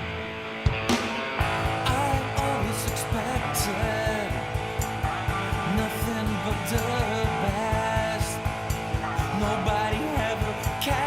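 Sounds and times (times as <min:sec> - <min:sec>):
strummed guitar: 0:00.0 - 0:11.0
steady drum beat: 0:00.7 - 0:11.0
person singing: 0:01.4 - 0:11.0.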